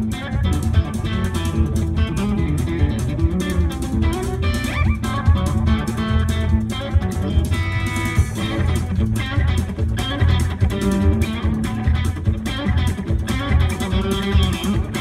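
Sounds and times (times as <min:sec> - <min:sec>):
bass-heavy backing music: 0:00.0 - 0:15.0
electric guitar fast picking: 0:00.0 - 0:15.0.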